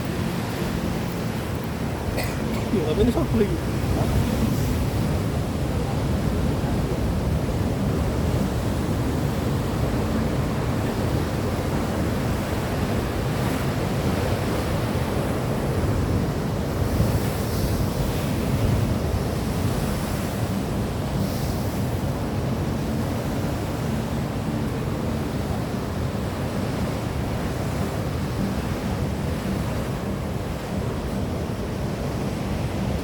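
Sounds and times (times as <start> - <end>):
surf rushing: 0.0 - 33.0
wind on microphone: 0.0 - 33.0.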